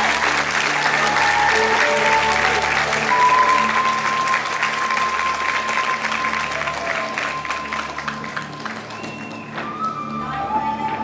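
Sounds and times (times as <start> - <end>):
audience clapping: 0.0 - 10.3.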